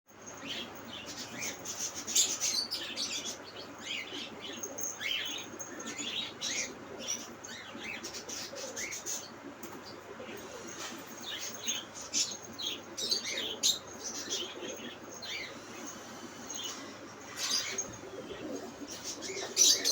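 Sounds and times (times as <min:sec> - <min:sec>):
small birds chirping: 0:00.1 - 0:19.9.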